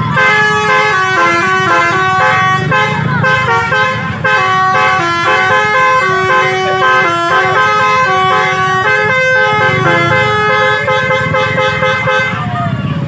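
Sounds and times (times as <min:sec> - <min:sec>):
low engine rumble: 0:00.0 - 0:13.0
multi-tone musical bus horn: 0:00.0 - 0:13.0.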